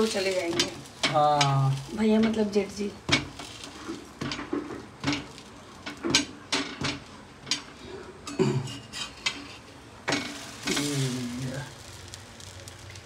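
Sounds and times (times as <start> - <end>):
spatula scraping on griddle: 0.0 - 7.8, 8.6 - 13.0.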